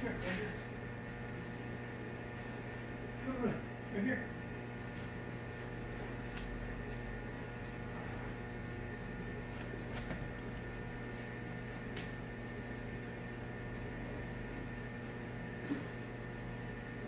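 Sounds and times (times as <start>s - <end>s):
mechanical hum of held tones: 0.0s - 17.0s.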